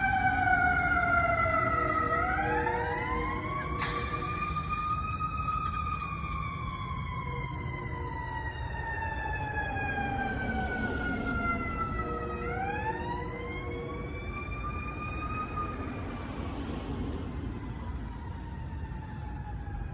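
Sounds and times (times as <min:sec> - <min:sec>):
siren wailing: 0:00.0 - 0:19.9.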